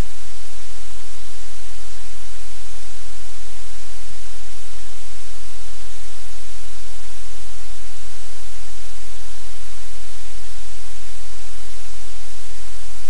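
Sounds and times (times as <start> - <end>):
loud steady hiss: 0.0 - 13.0.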